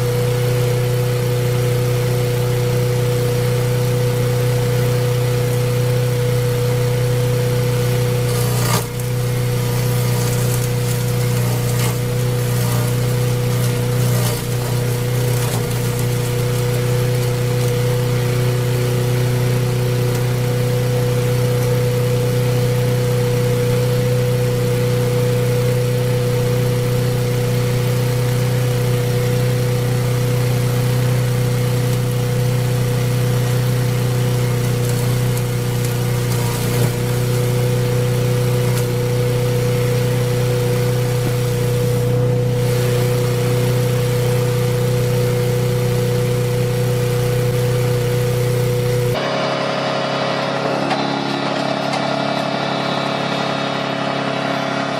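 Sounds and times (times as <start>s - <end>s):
wood chipper motor humming: 0.0s - 54.9s.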